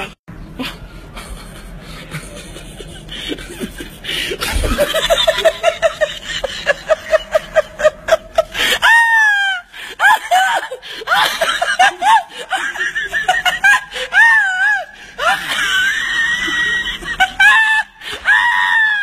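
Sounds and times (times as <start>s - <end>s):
person laughing hard: 0.6s - 19.0s.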